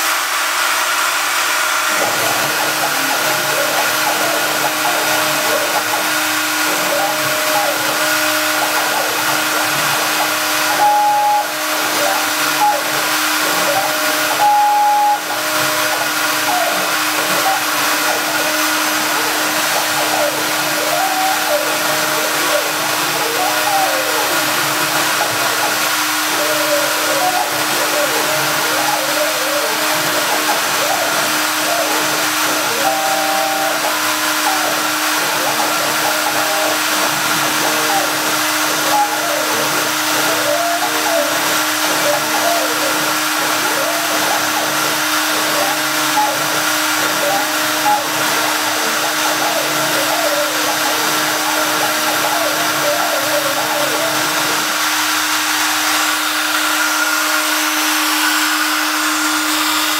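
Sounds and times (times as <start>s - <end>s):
axis drive tones shifting pitch: 0.0s - 59.9s
router spindle motor whine: 0.0s - 59.9s.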